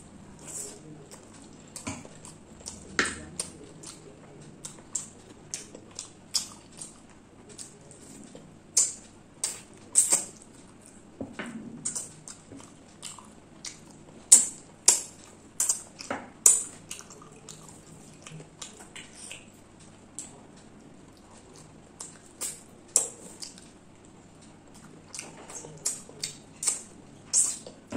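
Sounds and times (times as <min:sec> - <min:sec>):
wet chewing and lip smacks: 0:00.4 - 0:11.0, 0:11.8 - 0:20.4, 0:21.1 - 0:23.8, 0:24.8 - 0:27.8.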